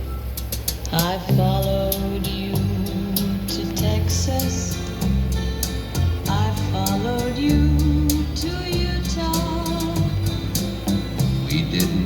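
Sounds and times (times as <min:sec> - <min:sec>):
bass line: 0:00.0 - 0:12.0
drums with cymbal ticks: 0:00.0 - 0:12.0
sliding melody: 0:01.3 - 0:12.0.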